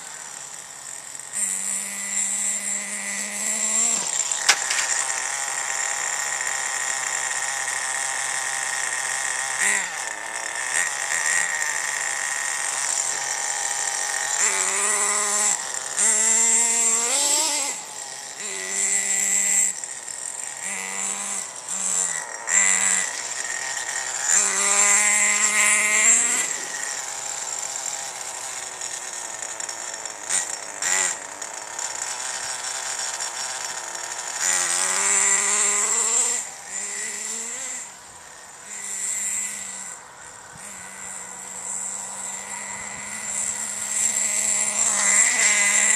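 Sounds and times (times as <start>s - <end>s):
steady high whine: 0.0s - 45.9s
toy car motor revving: 0.0s - 45.9s.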